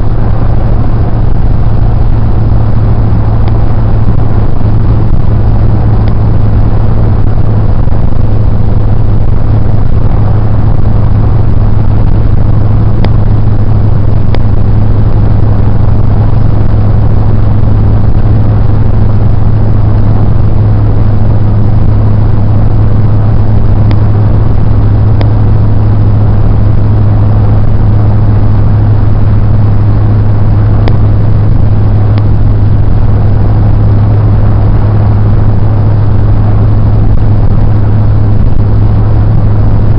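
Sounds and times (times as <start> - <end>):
car driving interior drone: 0.0 - 39.9.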